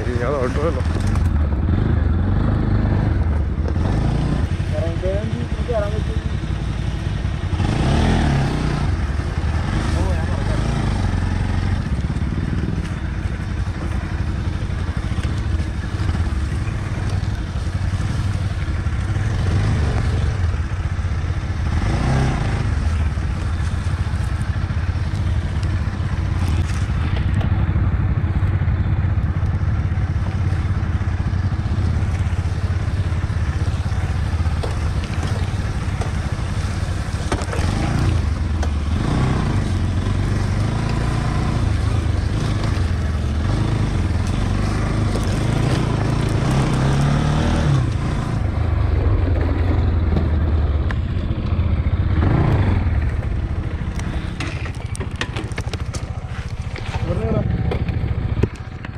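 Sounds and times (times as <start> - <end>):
motorcycle engine running at low speed: 0.0 - 58.9.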